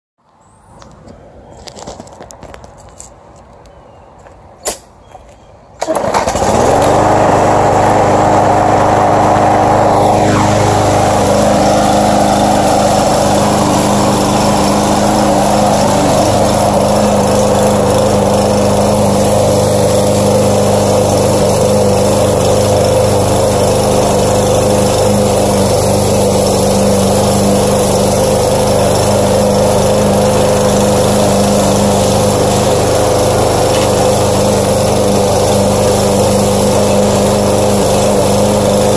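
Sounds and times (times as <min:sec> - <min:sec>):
lawn mower engine running: 0:05.8 - 0:38.9.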